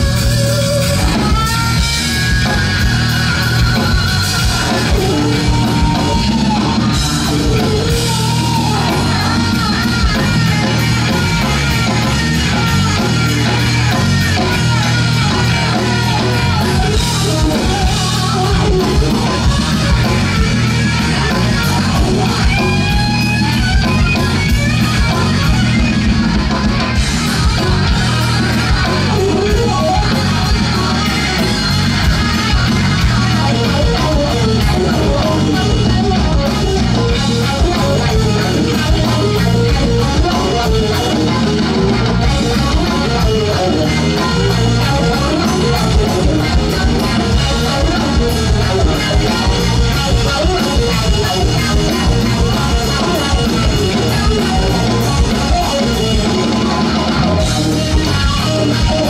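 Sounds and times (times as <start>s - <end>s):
bass guitar: 0.0s - 59.0s
drums: 0.0s - 59.0s
electric guitar lead: 0.0s - 59.0s.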